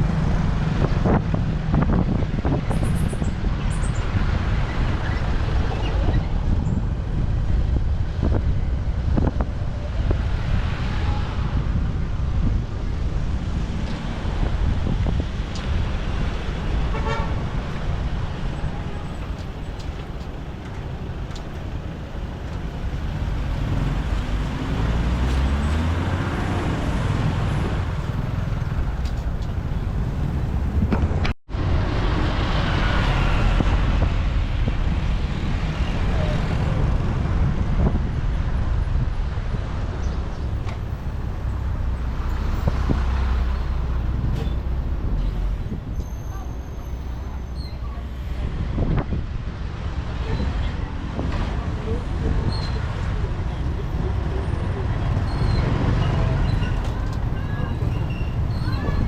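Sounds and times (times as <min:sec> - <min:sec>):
passing vehicles: 0:00.0 - 0:59.0
road noise: 0:00.0 - 0:59.0.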